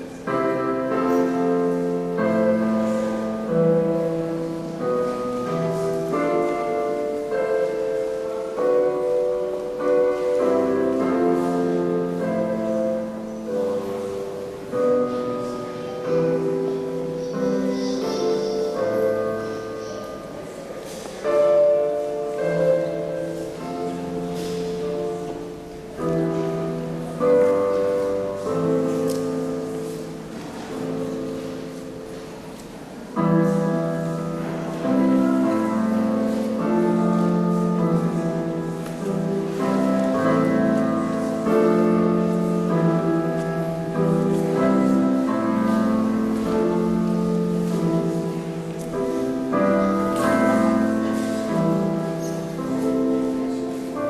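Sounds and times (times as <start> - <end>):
slow piano piece: 0.0 - 54.0.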